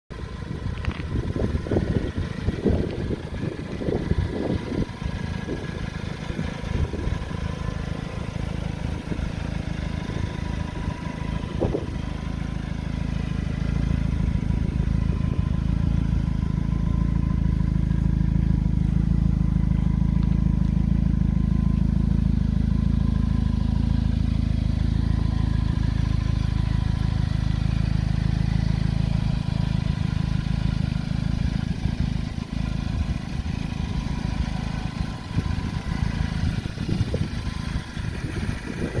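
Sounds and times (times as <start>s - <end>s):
car engine idling: 0.1s - 39.0s.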